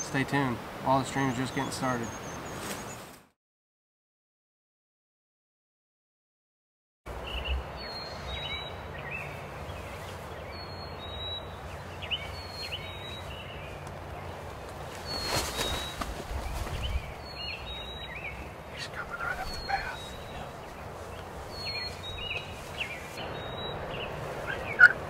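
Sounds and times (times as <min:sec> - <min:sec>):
birds chirping: 0:00.0 - 0:03.1, 0:07.1 - 0:25.0.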